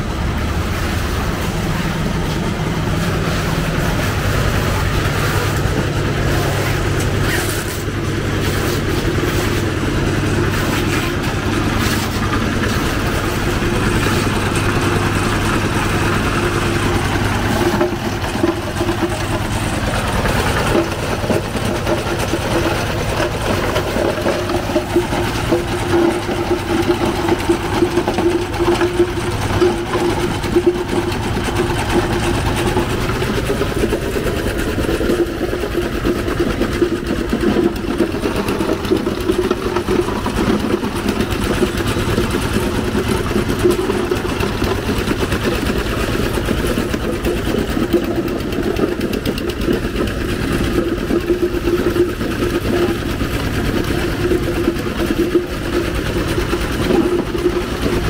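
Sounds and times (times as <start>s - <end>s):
small engine running: 0.0s - 58.0s
street noise: 0.0s - 58.0s.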